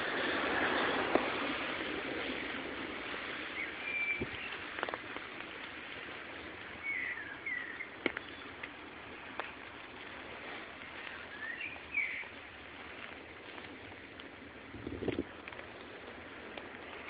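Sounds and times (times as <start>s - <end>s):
steady rushing background: 0.0s - 17.0s.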